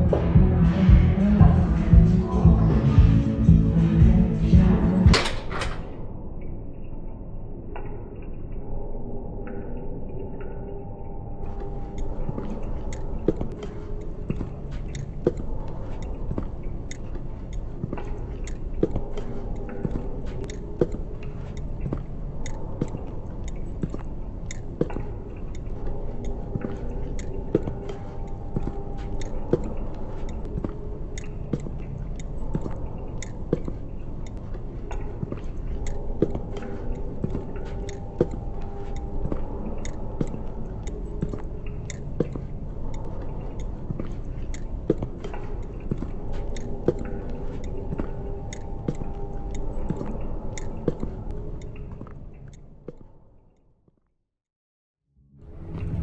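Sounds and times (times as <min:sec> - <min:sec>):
low steady drone: 0:00.0 - 0:53.3, 0:55.2 - 0:56.0.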